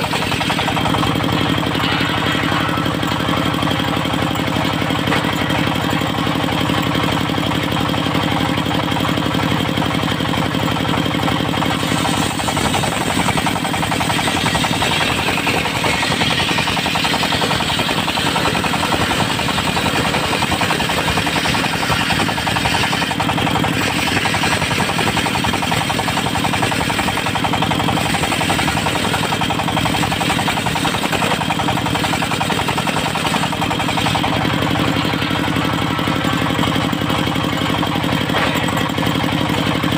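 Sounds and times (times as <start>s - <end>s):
diesel engine running: 0.0s - 39.9s
saw blade cutting log: 0.0s - 39.9s.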